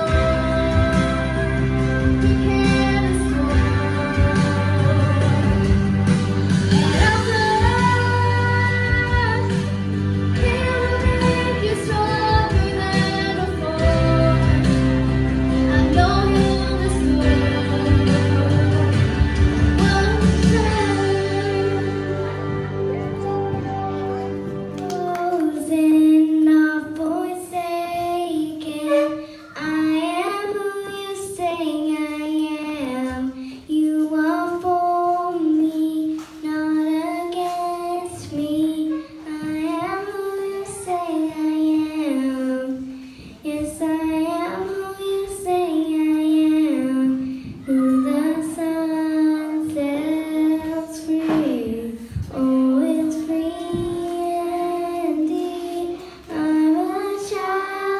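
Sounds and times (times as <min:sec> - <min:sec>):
girl singing into microphone: 0:00.0 - 0:57.9.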